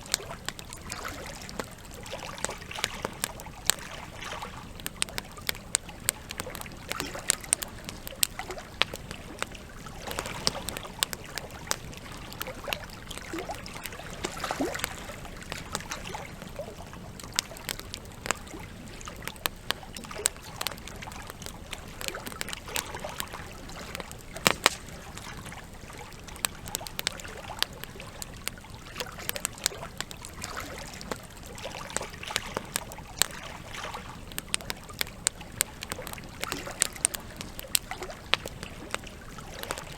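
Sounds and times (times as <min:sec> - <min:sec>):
campfire crackling and popping: 0:00.0 - 0:39.9
trickle of running water: 0:00.0 - 0:39.9.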